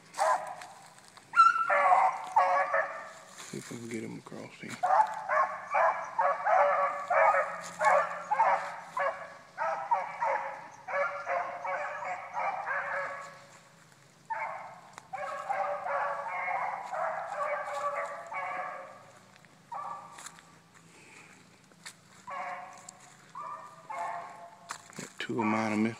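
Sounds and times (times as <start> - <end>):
dogs baying: 0.1 - 3.3, 4.7 - 20.7, 22.1 - 25.8.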